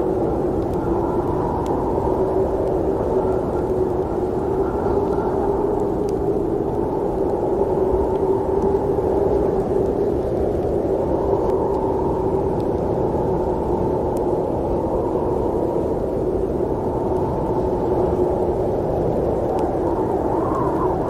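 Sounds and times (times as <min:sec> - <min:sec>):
snowstorm wind blowing: 0:00.0 - 0:21.0.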